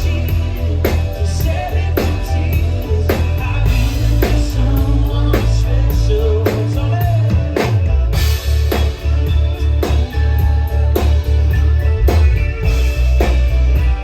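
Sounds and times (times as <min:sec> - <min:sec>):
heavy bass: 0:00.0 - 0:14.0
live rock band playing: 0:00.0 - 0:14.0
steady drum beat: 0:00.0 - 0:14.0.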